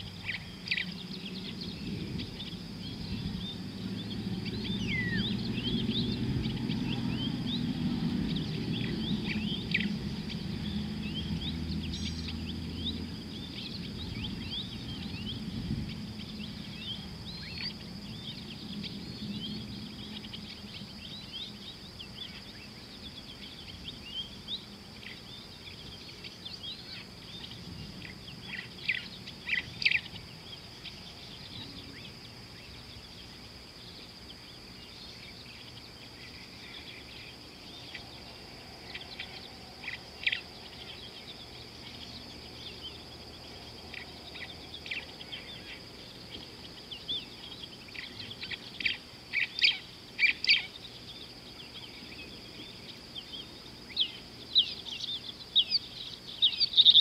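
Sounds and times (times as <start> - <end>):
birds chirping: 0.0 - 57.0
steady high-pitched hiss: 0.0 - 57.0.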